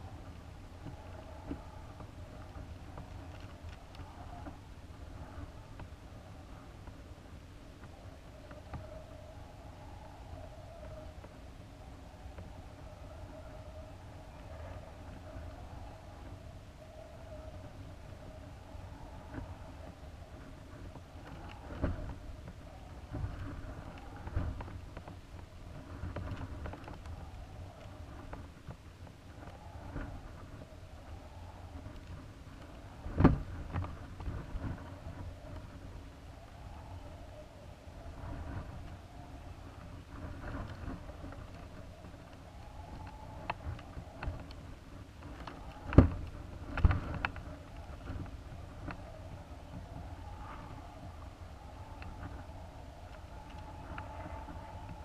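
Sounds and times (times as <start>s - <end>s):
air buffeting rumble: 0.0s - 55.0s.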